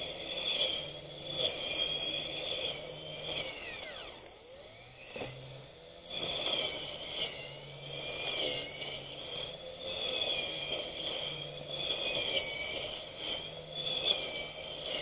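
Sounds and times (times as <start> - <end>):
grass cutter motor whining: 0.0 - 15.0.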